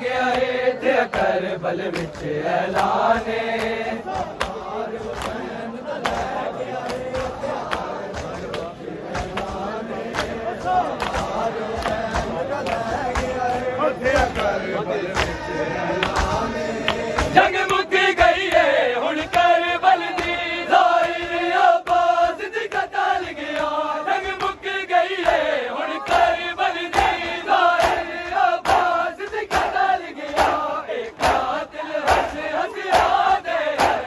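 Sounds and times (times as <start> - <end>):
crowd of men chanting: 0.0 - 34.0
hands slapping chests: 0.3 - 15.4, 16.0 - 34.0.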